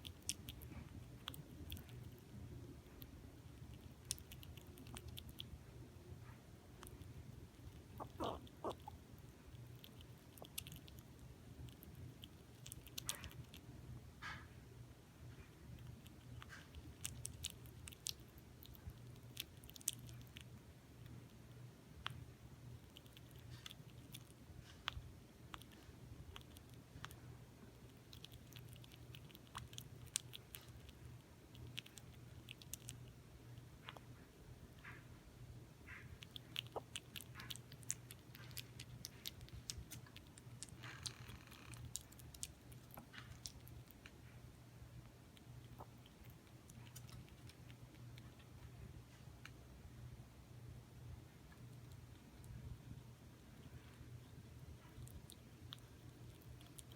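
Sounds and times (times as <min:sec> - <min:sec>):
squirrel gnawing peanuts: 0:00.0 - 0:56.9.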